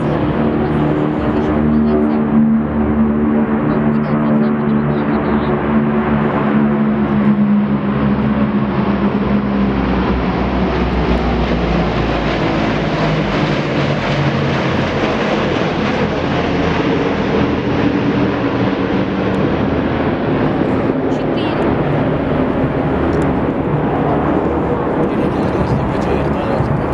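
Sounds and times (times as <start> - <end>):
aircraft engines droning overhead: 0.0 - 26.9.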